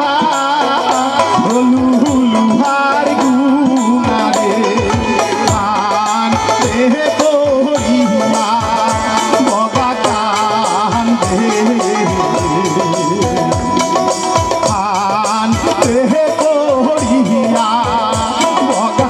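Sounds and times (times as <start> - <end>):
man singing through microphone: 0.0 - 19.0.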